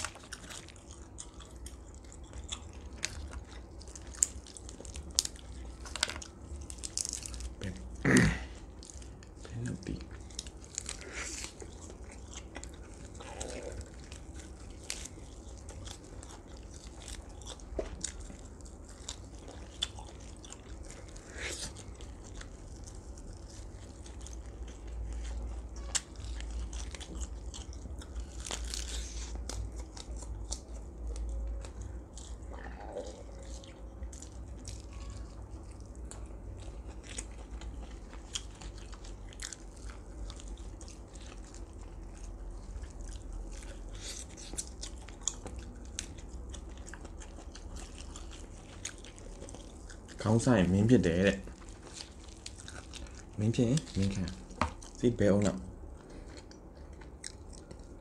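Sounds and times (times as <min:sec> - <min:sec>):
faint low hum: 0:00.0 - 0:58.0
person chewing meat: 0:00.0 - 0:58.0.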